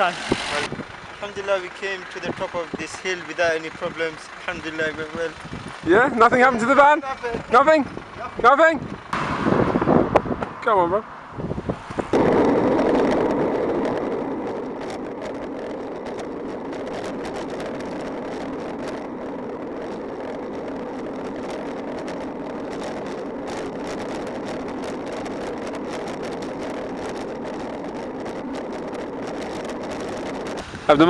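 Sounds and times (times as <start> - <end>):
road travel rushing noise: 0.0 - 31.0.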